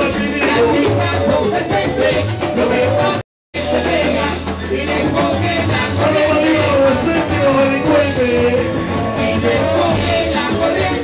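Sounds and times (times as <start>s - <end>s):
band playing upbeat groove: 0.0s - 11.0s
man singing into microphone: 0.0s - 11.0s.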